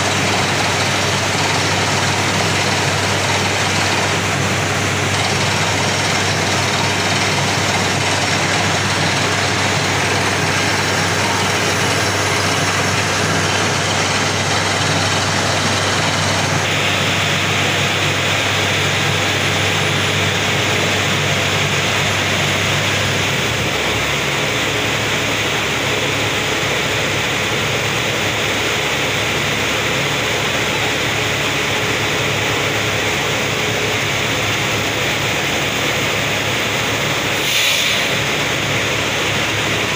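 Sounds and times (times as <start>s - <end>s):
drilling rig machine noise: 0.0s - 39.9s.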